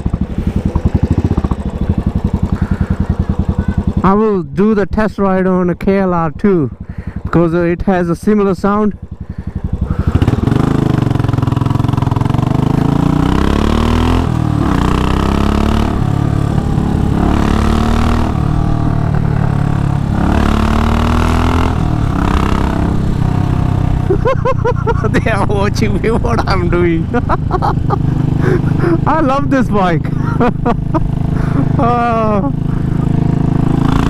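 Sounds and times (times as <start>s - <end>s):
motorcycle engine thumping and accelerating: 0.0s - 4.4s, 5.4s - 34.0s.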